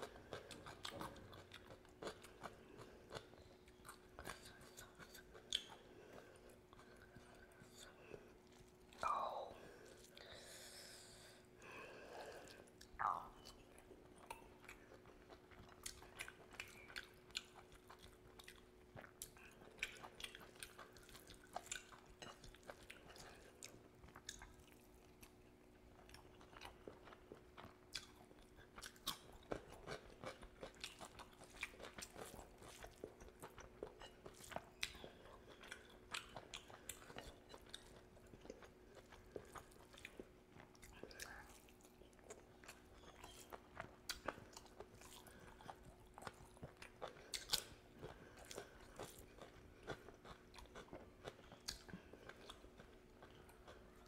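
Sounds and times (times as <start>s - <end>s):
faint steady hum: 0.0s - 54.0s
person chewing food: 0.0s - 54.0s.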